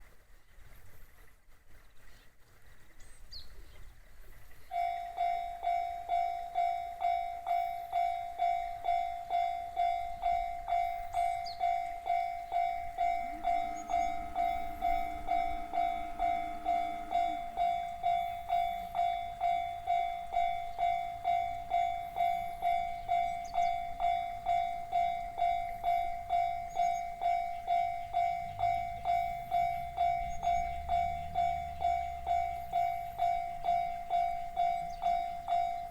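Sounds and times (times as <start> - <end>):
electric train rumbling: 4.4 - 35.9
low steady tone: 4.5 - 35.9
level crossing alarm dinging: 4.8 - 35.9.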